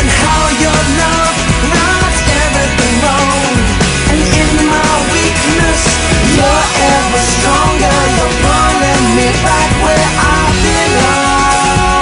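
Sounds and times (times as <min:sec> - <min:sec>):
song with band backing: 0:00.0 - 0:12.0.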